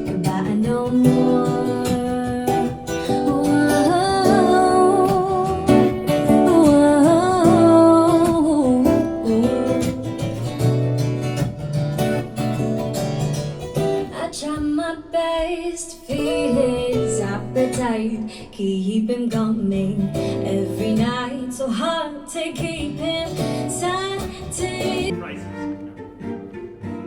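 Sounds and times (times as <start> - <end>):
acoustic guitar: 0.0 - 27.0.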